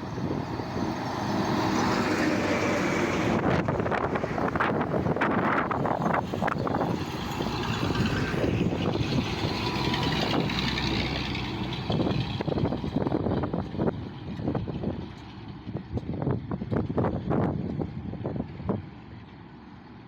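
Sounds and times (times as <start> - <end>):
truck engine rumbling with knocks: 0.0 - 20.0.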